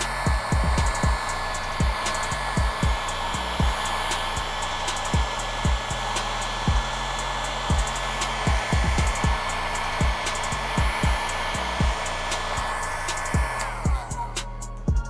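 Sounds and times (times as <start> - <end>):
hair being combed: 0.0 - 15.0
hair dryer blowing: 0.0 - 15.0
music with bass-drum beat: 0.0 - 15.0.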